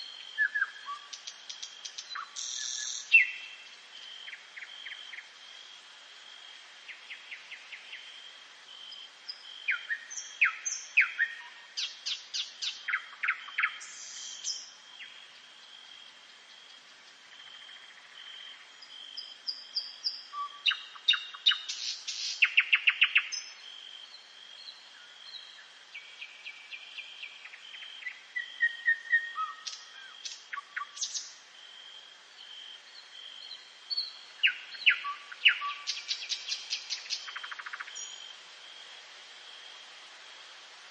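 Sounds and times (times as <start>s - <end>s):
songbirds chirping and trilling: 0.0s - 40.2s.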